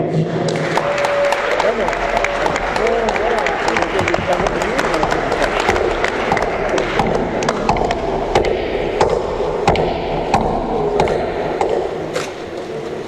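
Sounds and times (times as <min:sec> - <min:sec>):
steady background din: 0:00.0 - 0:13.0.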